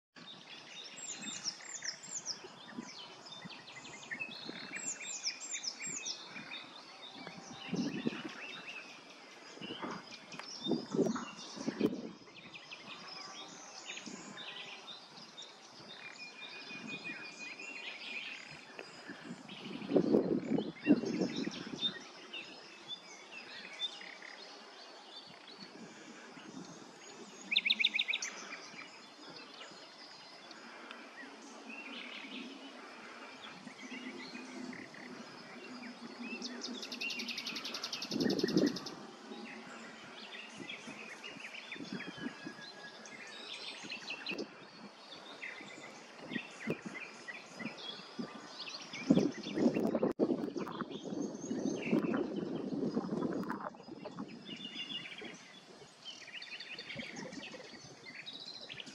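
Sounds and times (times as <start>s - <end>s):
songbirds singing and chirping: 0.2s - 58.9s.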